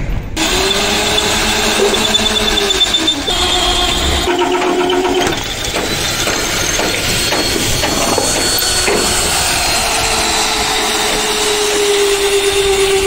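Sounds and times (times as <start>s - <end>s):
drill bit squealing whine: 0.4s - 13.0s
electric drill boring through steel: 0.4s - 13.0s.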